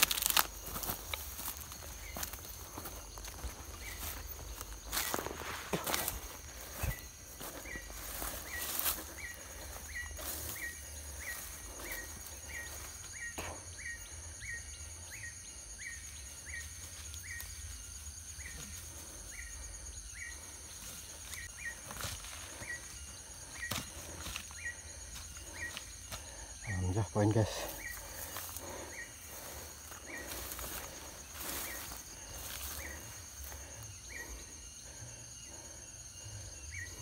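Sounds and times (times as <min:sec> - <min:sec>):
high-pitched insect drone: 0:00.0 - 0:37.0.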